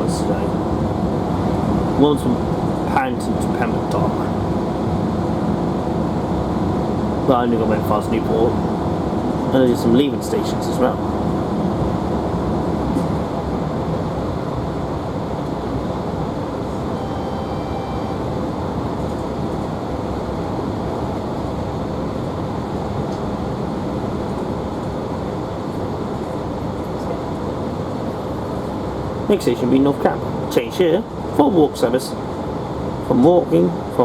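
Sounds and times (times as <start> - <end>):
train diesel engine and wheels rumbling: 0.0 - 34.0.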